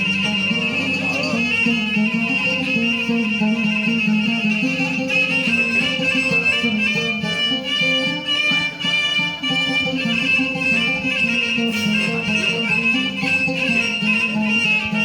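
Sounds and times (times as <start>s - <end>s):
bowed fiddle melody: 0.0s - 15.0s.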